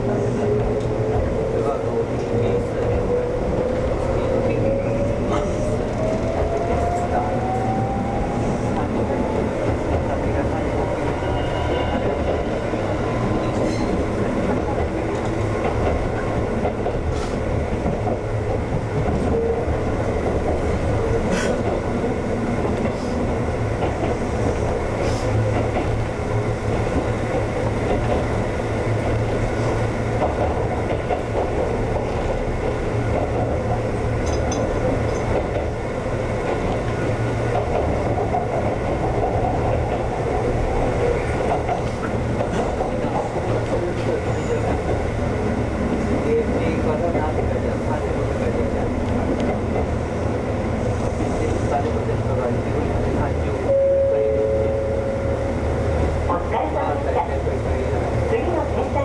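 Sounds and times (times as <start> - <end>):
rumble of train wheels on rail: 0.0 - 59.0.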